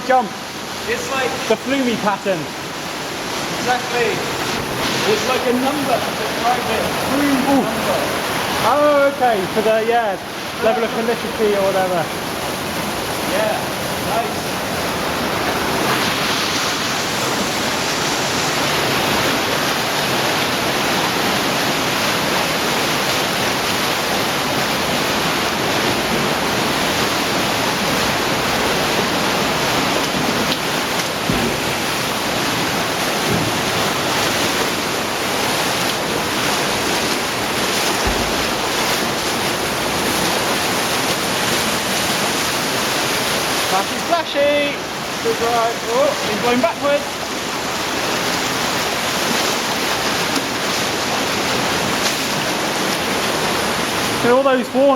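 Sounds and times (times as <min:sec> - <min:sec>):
stream rushing and cascading: 0:00.0 - 0:54.9.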